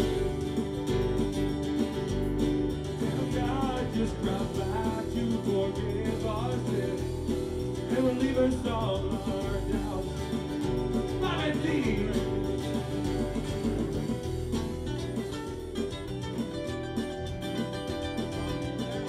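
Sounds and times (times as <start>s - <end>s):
live band with electric guitars: 0.0s - 19.0s.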